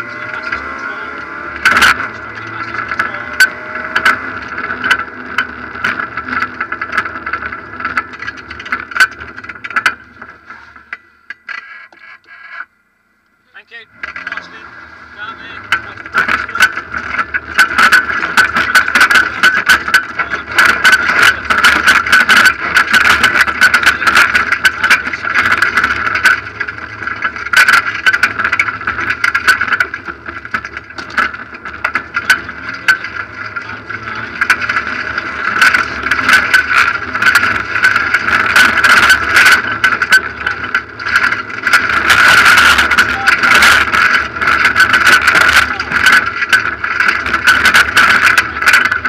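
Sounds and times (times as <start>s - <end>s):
gravel striking car underside: 0.0s - 12.7s, 14.0s - 49.0s
car engine running hard: 0.0s - 49.0s.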